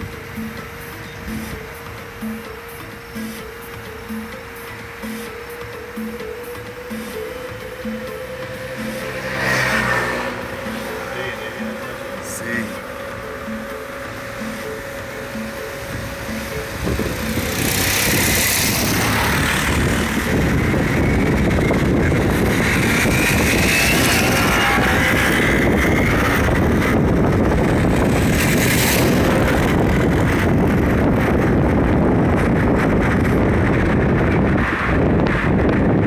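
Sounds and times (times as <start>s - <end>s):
car engine and tyre rumble: 0.0s - 36.0s
motorcycle passing by: 5.0s - 36.0s.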